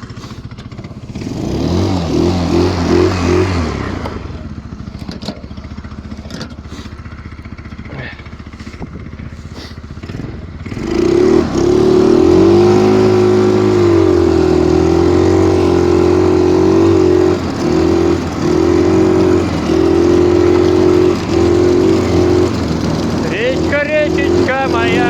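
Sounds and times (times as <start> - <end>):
snowmobile engine revving: 0.0 - 25.0.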